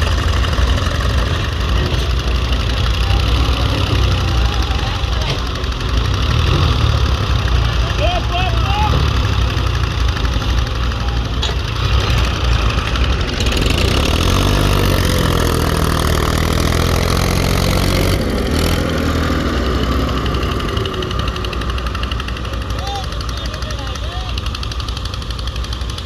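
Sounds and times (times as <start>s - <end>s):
diesel engine running and revving: 0.0s - 26.0s.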